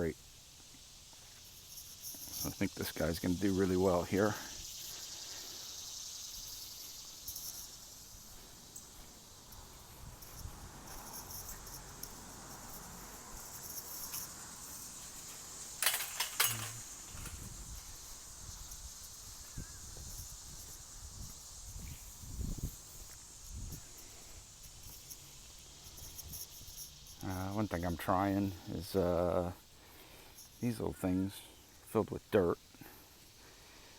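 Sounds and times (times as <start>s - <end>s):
insects chirring: 0.0s - 33.9s.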